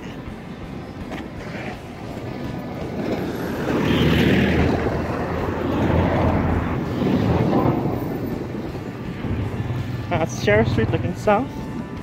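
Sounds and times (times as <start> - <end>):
truck passing close: 0.0 - 12.0
vehicles moving through junction: 0.0 - 12.0.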